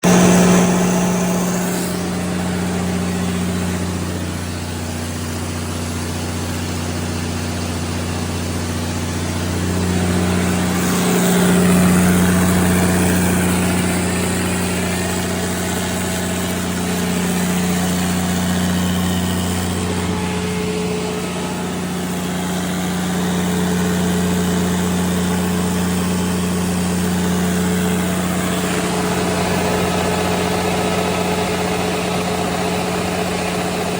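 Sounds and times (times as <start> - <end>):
diesel generator low drone: 0.0 - 33.9.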